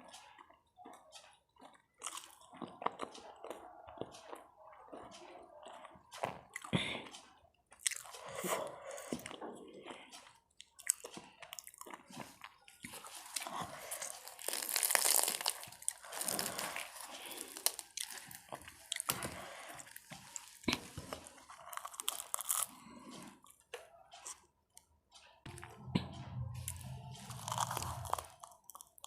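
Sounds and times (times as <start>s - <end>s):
person chewing crunchy food: 0.0s - 24.5s, 25.5s - 29.0s.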